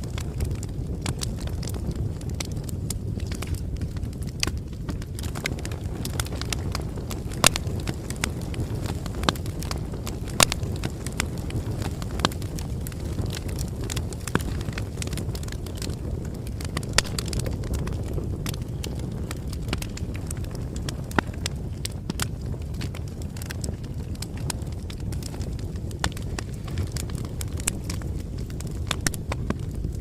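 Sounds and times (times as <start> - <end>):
burning wood crackling and popping: 0.0 - 30.0
flames rumbling: 0.0 - 30.0.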